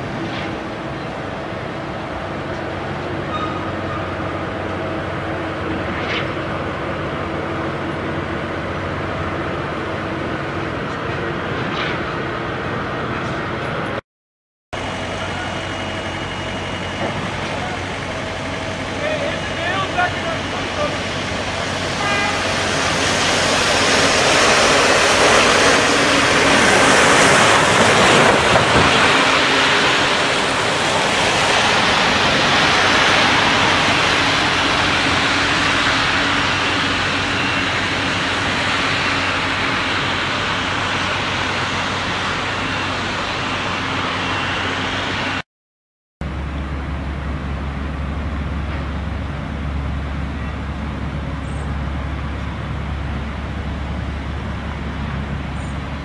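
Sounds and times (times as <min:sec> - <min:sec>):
road traffic rush: 0:00.0 - 0:14.0, 0:14.8 - 0:45.4, 0:46.2 - 0:56.0.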